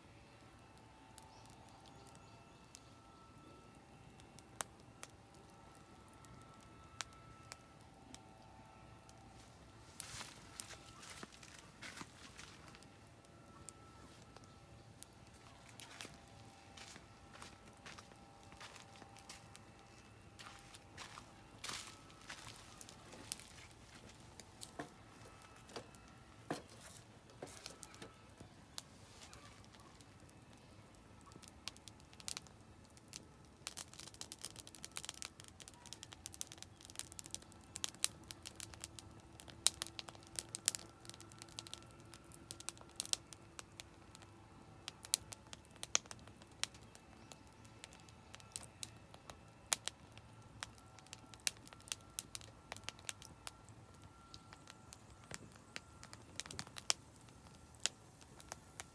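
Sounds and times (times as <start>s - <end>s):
campfire crackling and popping: 0.4s - 58.9s.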